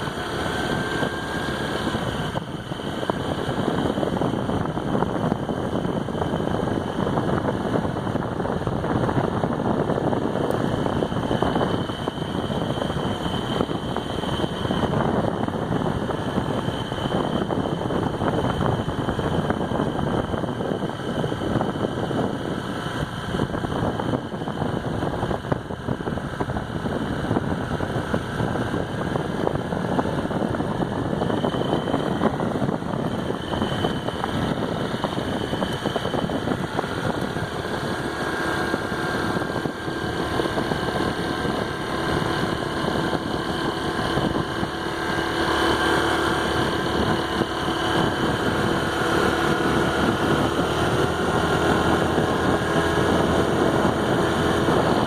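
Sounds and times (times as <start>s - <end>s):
scooter engine humming: 0.0s - 55.0s.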